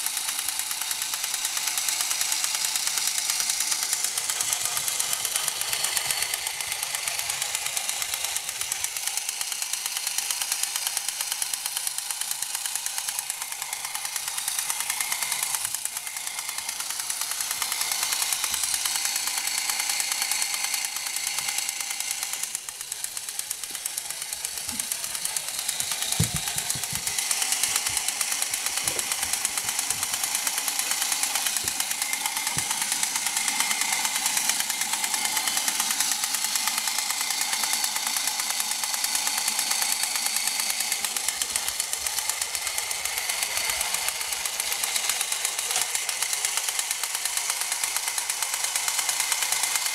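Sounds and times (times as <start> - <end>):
toy helicopter motor whirring: 0.0 - 49.9.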